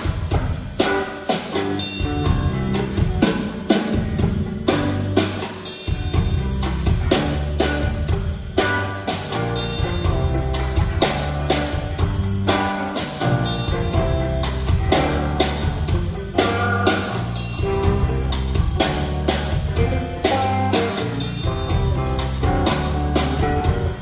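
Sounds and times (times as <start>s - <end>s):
drum kit beat: 0.0s - 24.0s
electric guitar lines: 0.0s - 24.0s
held bass notes: 1.9s - 24.0s.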